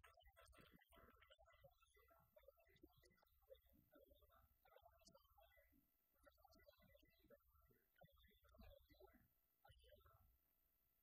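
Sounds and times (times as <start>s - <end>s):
faint man speaking over video call: 0.0s - 11.0s.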